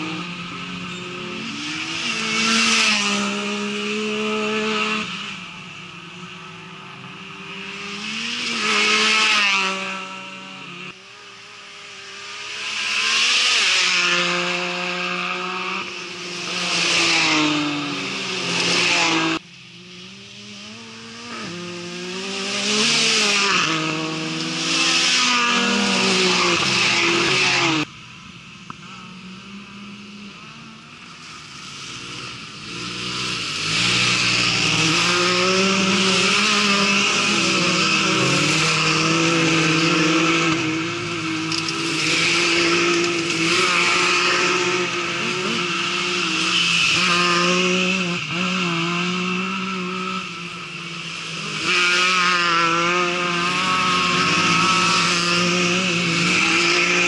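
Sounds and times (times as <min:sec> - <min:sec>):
racing buggy engines revving: 0:00.0 - 0:27.9, 0:28.6 - 0:57.0.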